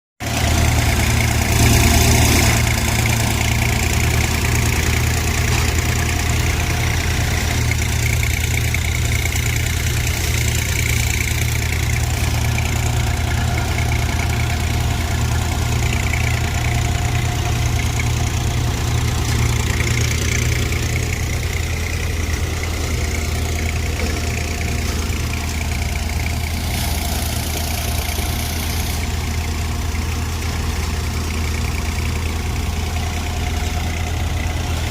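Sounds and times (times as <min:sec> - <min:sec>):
tractor diesel engine humming: 0:00.2 - 0:34.9.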